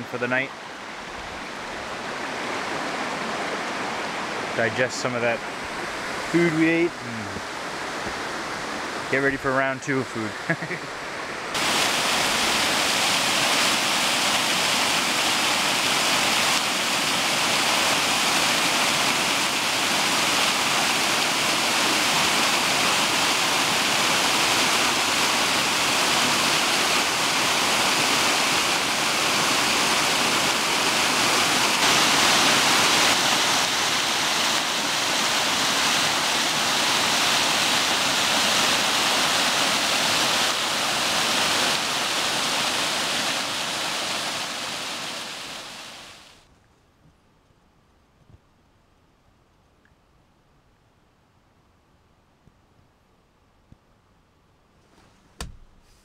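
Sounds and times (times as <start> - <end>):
stream water rushing: 0.0 - 46.5.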